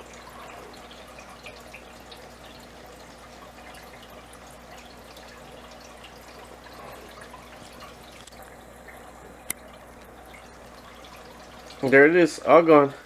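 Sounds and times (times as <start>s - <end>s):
aquarium water trickling: 0.0s - 13.0s.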